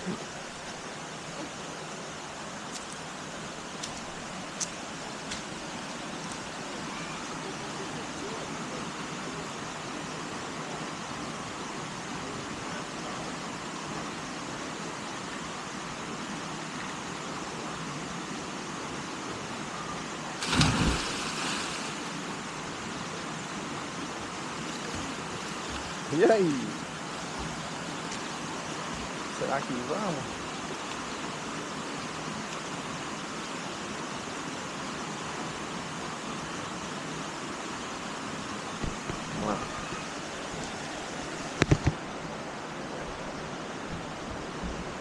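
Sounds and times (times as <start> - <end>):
waterfall and stream rushing: 0.0 - 45.0.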